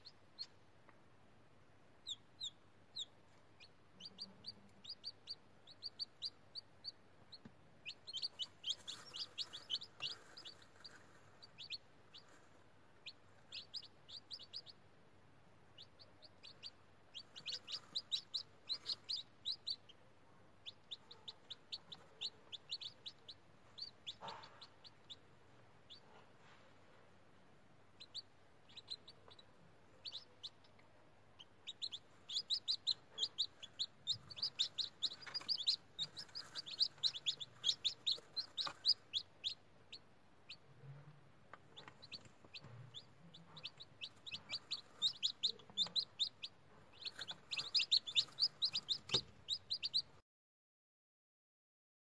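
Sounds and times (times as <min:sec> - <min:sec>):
chicks peeping: 0:00.0 - 0:50.2.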